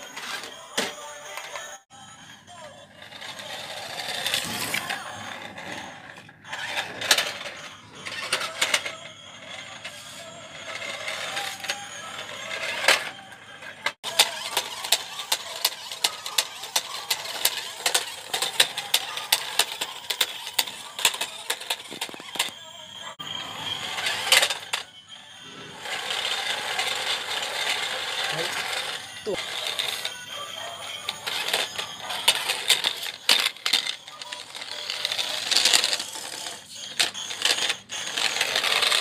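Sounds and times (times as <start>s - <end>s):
toy car motors whirring: 0.0s - 39.0s.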